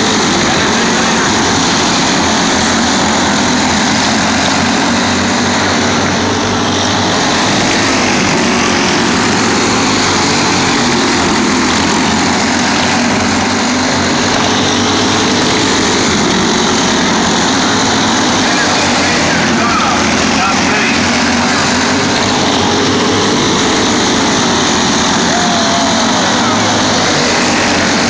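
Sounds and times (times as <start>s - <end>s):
go-kart engines racing past: 0.0s - 28.0s.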